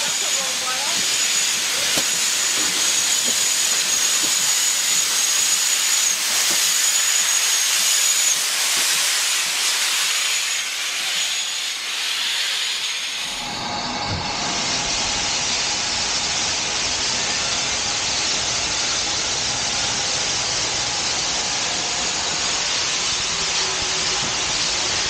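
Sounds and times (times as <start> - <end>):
steam hissing: 0.0 - 25.0.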